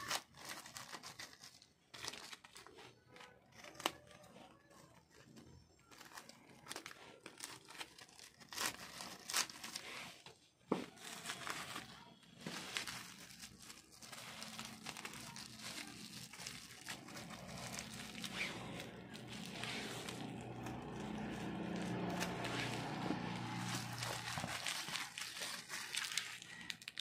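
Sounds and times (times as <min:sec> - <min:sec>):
packaging crinkling and tearing: 0:00.0 - 0:27.0.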